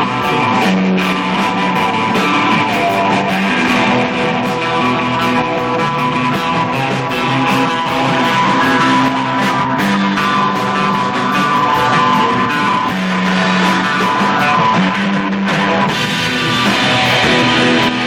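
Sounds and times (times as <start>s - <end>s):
drums: 0.0s - 18.0s
electric guitar chords: 0.0s - 18.0s.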